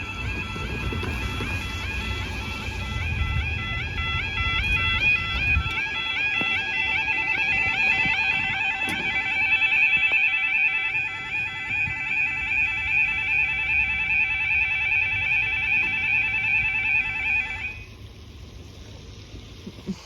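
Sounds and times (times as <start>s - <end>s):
level crossing alarm warbling: 0.0s - 18.0s.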